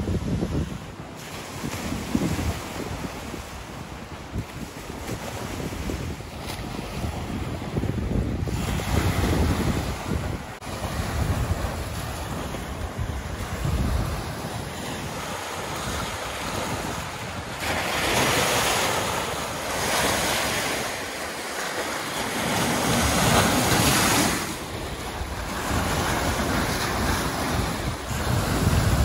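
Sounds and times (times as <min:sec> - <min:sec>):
wind buffeting microphone: 0:00.0 - 0:29.0
waves breaking over rocks: 0:00.4 - 0:29.0.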